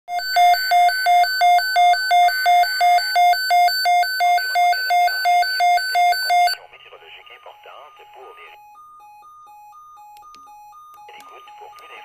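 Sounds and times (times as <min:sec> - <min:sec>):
weather radio alarm beeping: 0:00.1 - 0:12.0.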